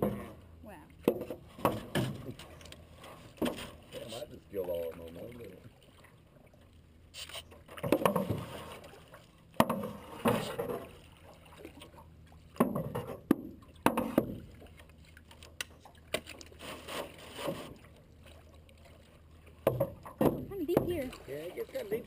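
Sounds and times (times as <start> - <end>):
paddles splashing through water: 0.0 - 22.0.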